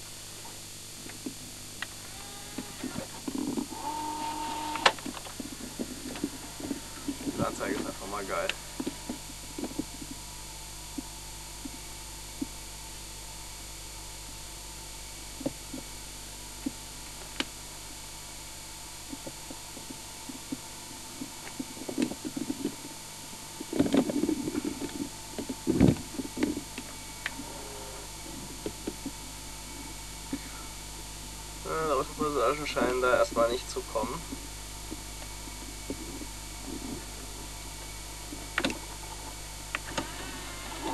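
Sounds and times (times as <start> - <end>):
faint steady tone: 0.0 - 40.9
tape hiss: 0.0 - 40.9.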